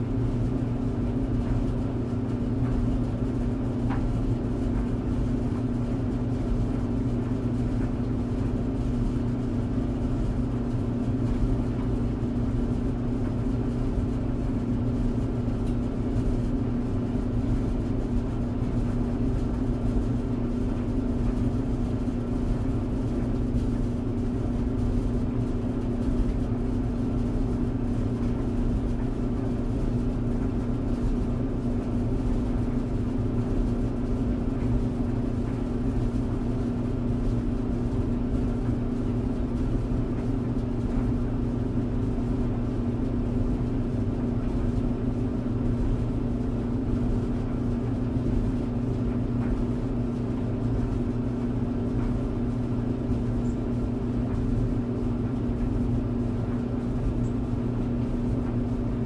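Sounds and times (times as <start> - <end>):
tumble dryer humming: 0.0 - 59.0.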